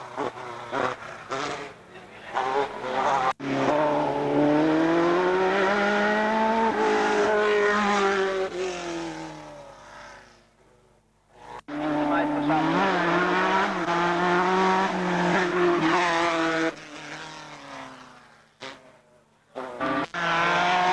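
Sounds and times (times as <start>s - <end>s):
racing car engine at high revs: 0.0s - 10.6s, 11.3s - 20.9s.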